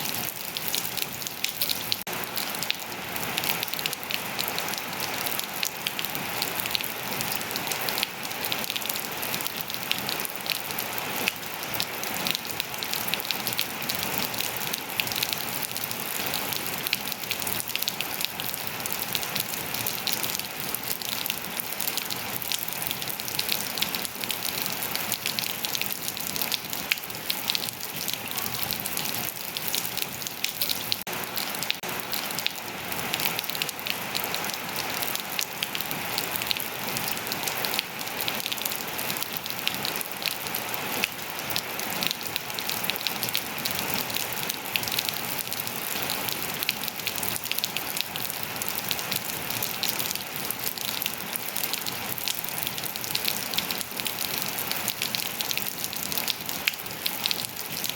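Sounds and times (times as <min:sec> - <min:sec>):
rain on hard surfaces: 0:00.0 - 0:57.9.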